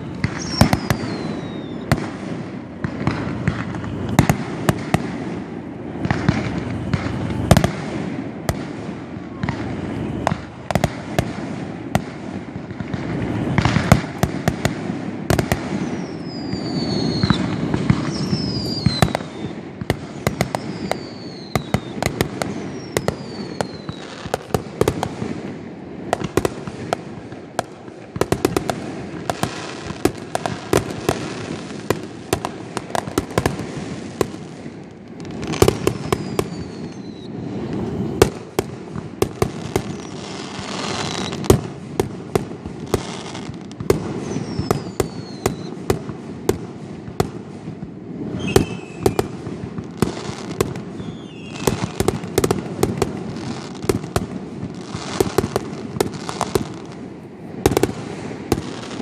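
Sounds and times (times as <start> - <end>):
falling firework whistles: 0.0 - 59.0
fireworks bangs and crackling: 0.0 - 59.0.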